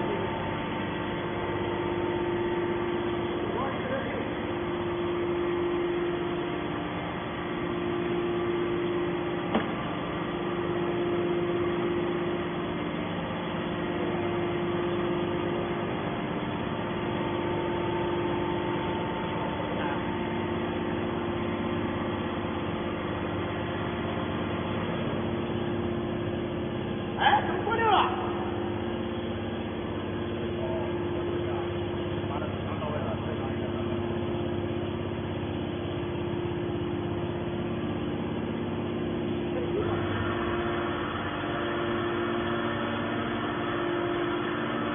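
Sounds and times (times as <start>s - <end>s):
electric motor and pump humming: 0.0s - 44.9s.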